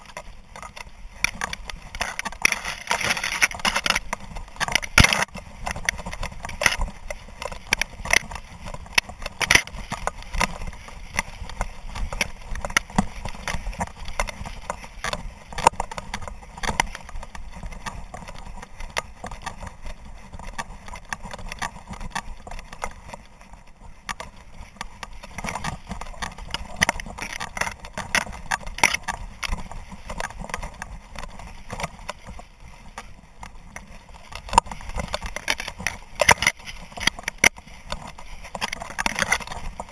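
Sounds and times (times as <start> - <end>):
dry grass swishing against camera: 0.0 - 39.9.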